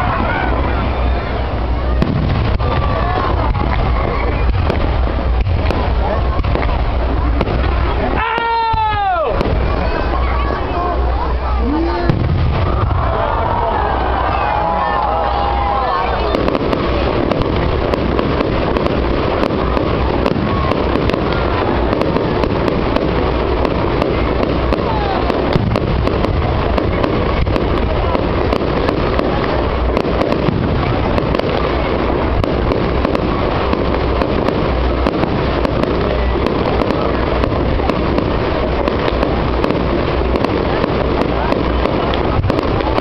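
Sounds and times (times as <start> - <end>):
fireworks popping and banging: 0.0 - 43.0.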